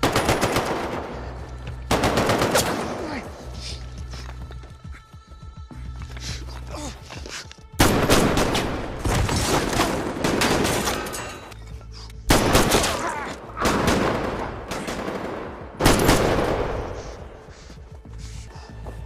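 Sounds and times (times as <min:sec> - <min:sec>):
film music score: 0:00.0 - 0:19.0.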